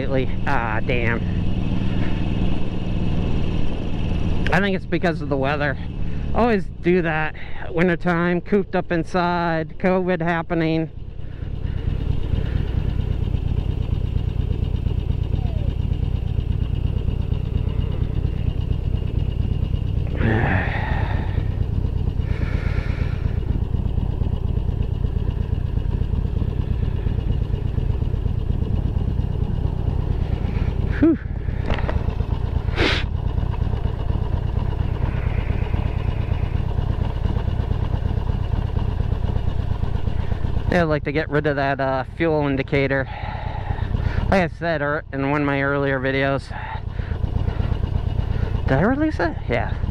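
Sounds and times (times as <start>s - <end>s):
motorcycle engine idling: 0.0s - 49.9s.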